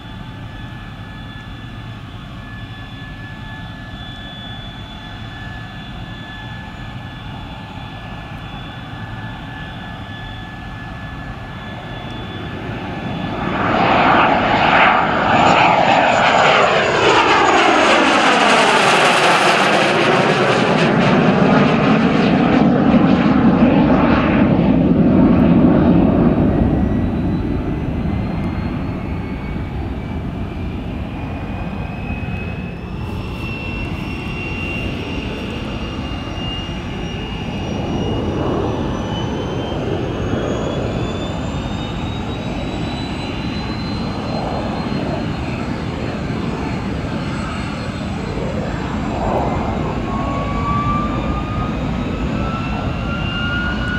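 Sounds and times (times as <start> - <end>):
jet fighter roar overhead: 0.0 - 53.9
jet turbine whine: 0.0 - 53.9.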